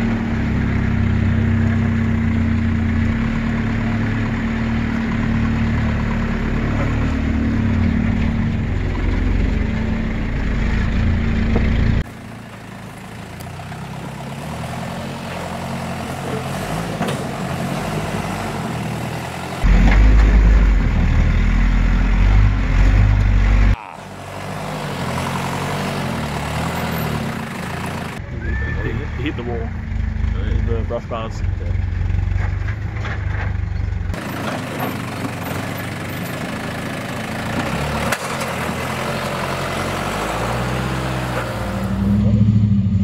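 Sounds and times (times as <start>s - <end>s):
diesel engine at low revs: 0.0s - 43.0s.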